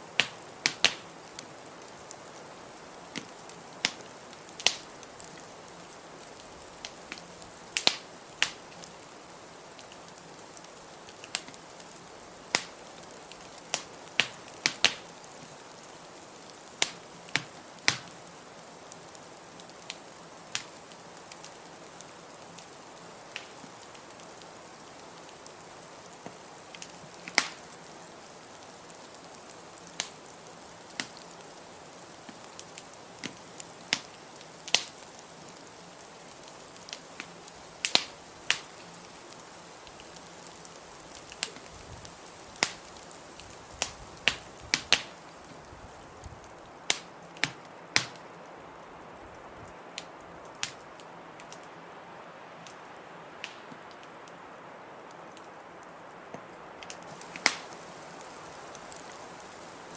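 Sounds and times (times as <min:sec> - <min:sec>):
wood fire crackling and popping: 0:00.0 - 0:51.8, 0:52.6 - 0:59.9.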